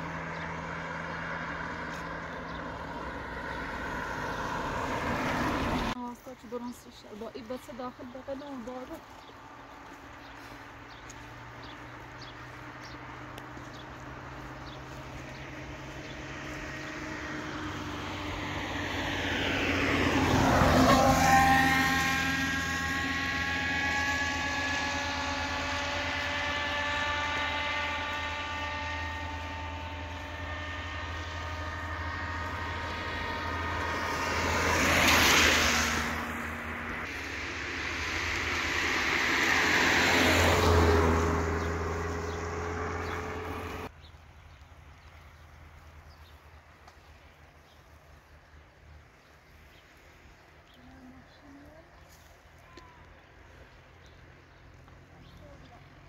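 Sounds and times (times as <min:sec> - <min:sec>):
motor vehicles passing by: 0:00.0 - 0:56.0.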